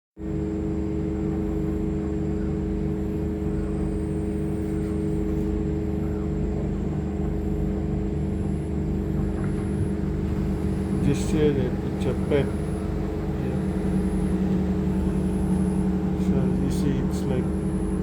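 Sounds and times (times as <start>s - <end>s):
engine machinery droning: 0.2s - 18.0s.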